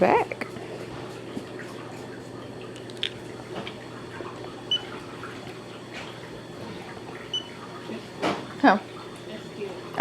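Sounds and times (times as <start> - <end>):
water swirling in foot spa: 0.0 - 10.0.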